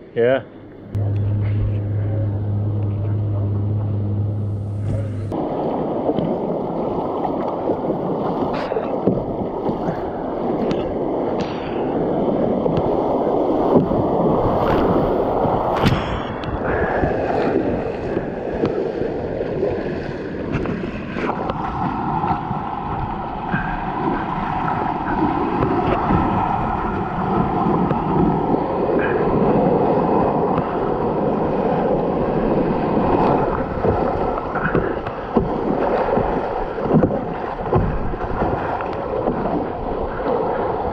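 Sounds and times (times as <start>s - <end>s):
paddle splashes: 0.9s - 40.9s.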